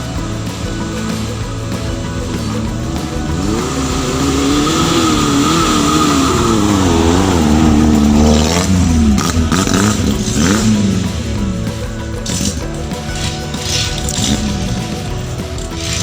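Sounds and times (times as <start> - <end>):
jeep engine revving: 0.0 - 16.0.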